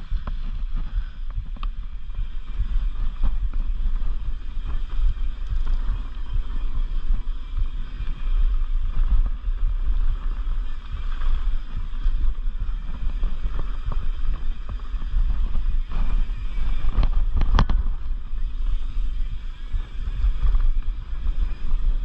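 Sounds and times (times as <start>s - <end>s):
bike clicks and rattles: 0.0s - 22.0s
wind on microphone: 0.0s - 22.0s.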